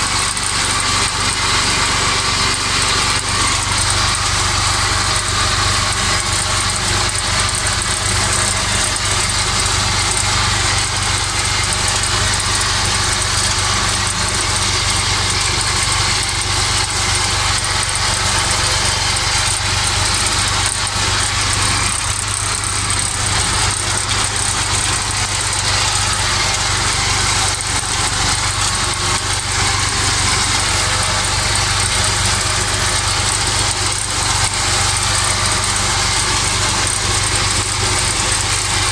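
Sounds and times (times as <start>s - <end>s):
mower whirring and rattling: 0.0s - 38.9s
tractor diesel engine drone: 0.0s - 38.9s.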